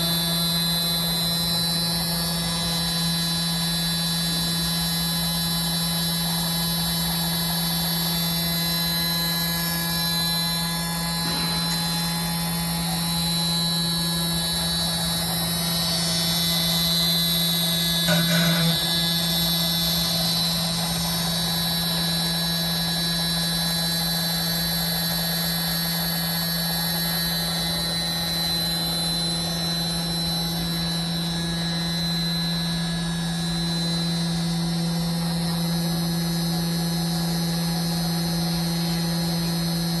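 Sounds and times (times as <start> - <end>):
router spindle humming and whining: 0.0 - 40.0.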